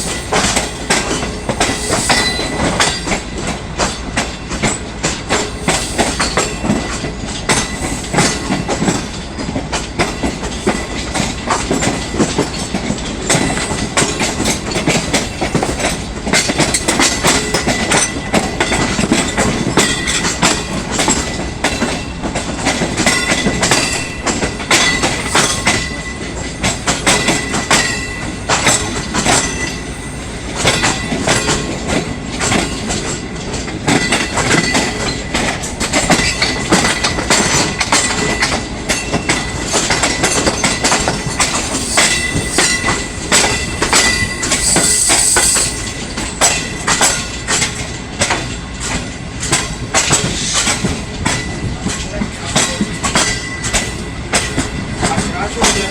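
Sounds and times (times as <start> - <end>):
train wheels clattering over rail joints: 0.0 - 55.9.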